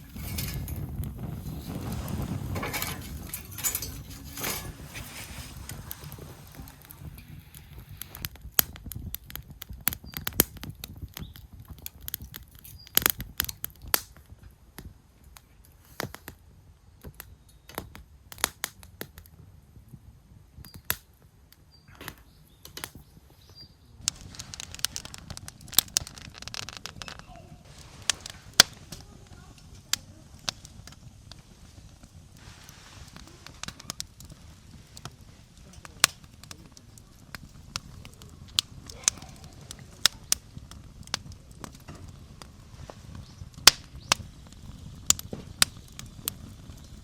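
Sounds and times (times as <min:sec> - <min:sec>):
rustling hiss: 0:00.0 - 0:14.3, 0:22.3 - 0:47.0
campfire crackling and popping: 0:00.0 - 0:47.0.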